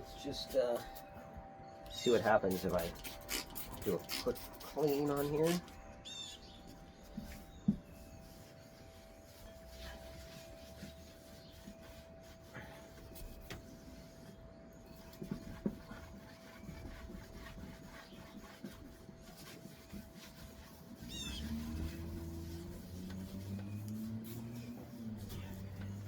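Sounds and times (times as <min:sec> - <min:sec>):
cloth rubbing on wood: 0:02.0 - 0:26.0.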